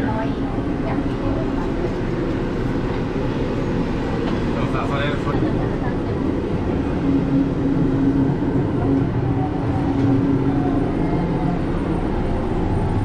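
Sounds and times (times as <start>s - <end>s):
monorail cabin rumble: 0.0s - 13.0s.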